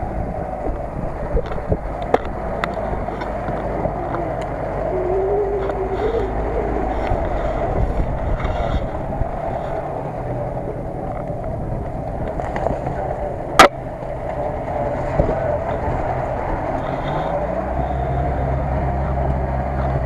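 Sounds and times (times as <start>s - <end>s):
vehicle engine at low revs: 0.0s - 20.0s.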